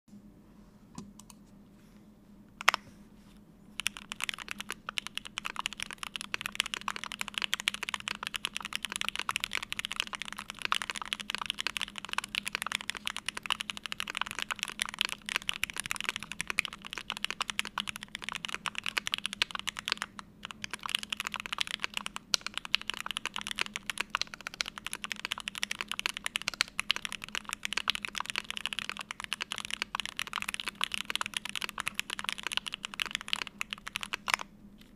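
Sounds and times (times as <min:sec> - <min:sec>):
fast typing on mechanical keyboard: 0:03.8 - 0:34.5.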